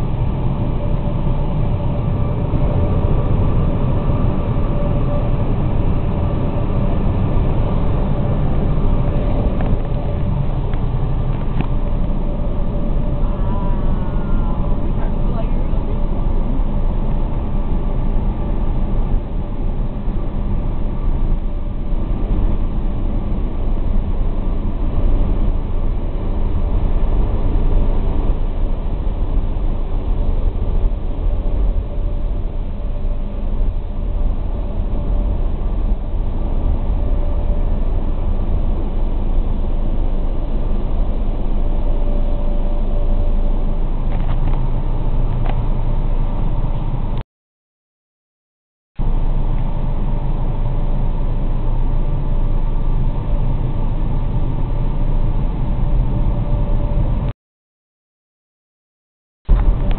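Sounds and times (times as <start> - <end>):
car wash drying blowers rumbling: 0.0 - 47.2, 49.0 - 57.3.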